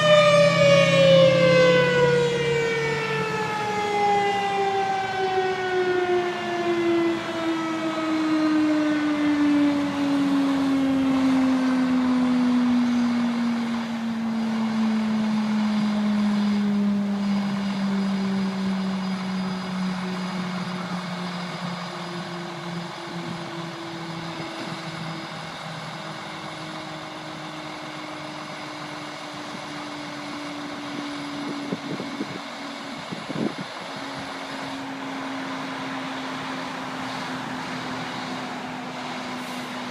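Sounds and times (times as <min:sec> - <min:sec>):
mechanical siren winding down: 0:00.0 - 0:39.9.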